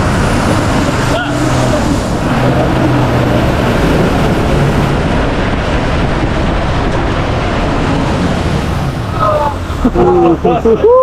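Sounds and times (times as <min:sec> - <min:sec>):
low engine hum: 0:00.0 - 0:11.0
wind and water rushing: 0:00.0 - 0:11.0.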